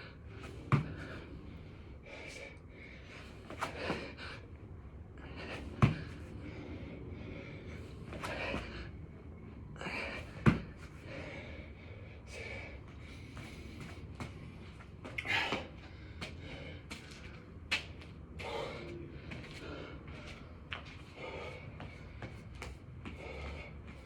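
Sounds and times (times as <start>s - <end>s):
man breathing heavily: 0.0s - 24.0s.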